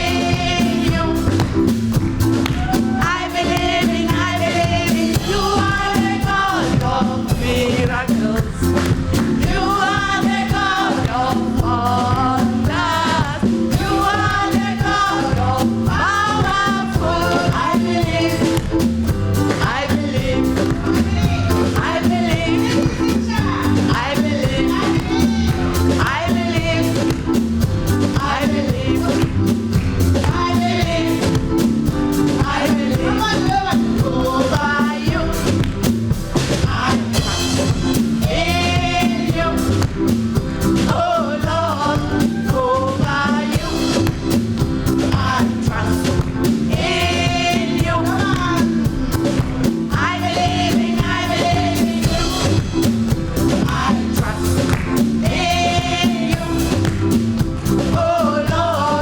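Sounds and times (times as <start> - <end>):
bass: 0.0 - 59.0
drum beat: 0.0 - 59.0
gospel singers singing: 0.0 - 59.0.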